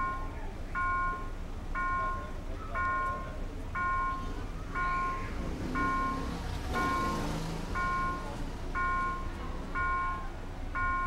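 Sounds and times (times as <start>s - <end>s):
level-crossing warning bell: 0.0s - 11.0s
traffic rumble: 0.0s - 11.0s.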